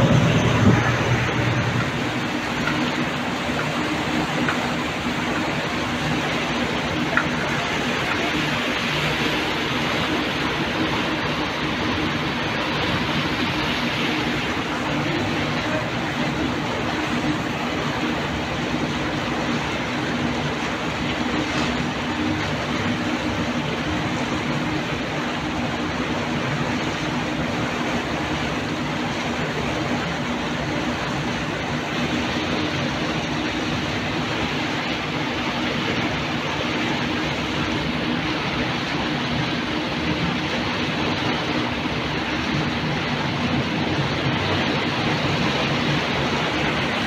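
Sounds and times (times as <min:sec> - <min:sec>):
boat engine humming: 0:00.0 - 0:47.0
water wash: 0:00.0 - 0:47.0.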